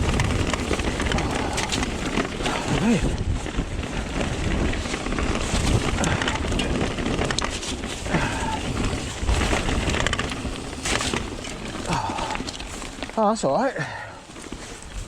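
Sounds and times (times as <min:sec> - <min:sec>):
wind buffeting microphone: 0:00.0 - 0:13.2
bike rattling over rough trail: 0:00.0 - 0:15.0.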